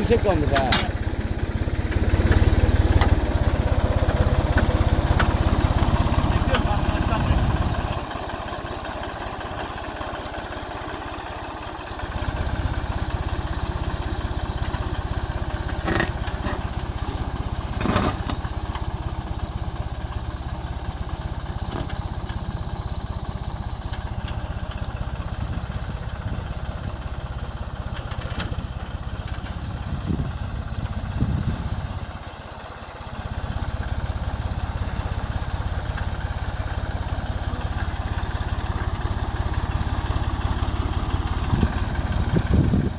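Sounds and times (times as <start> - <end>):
tractor engine under load: 0.0 - 42.9.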